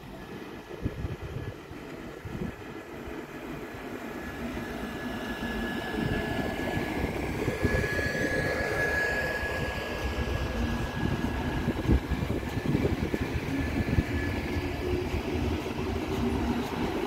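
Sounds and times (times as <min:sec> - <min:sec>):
steady high whine: 0:00.0 - 0:17.0
train wheels rumbling on rails: 0:00.0 - 0:17.0.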